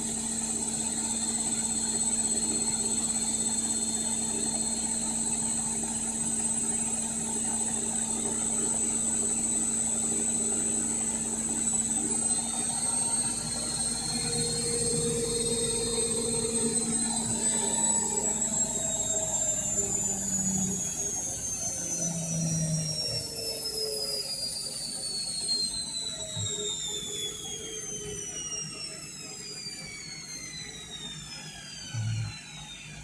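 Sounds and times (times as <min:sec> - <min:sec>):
washing machine spinning down: 0:00.0 - 0:33.0.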